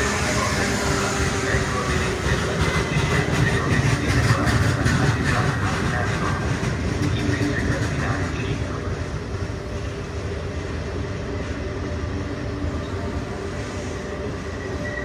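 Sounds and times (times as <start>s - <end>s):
passenger train wheels running: 0.0s - 15.0s.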